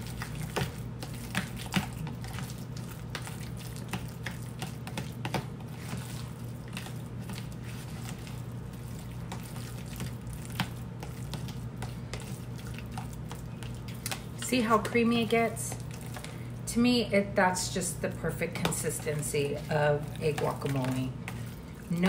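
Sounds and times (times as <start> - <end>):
spoon mashing avocado: 0.0 - 22.0.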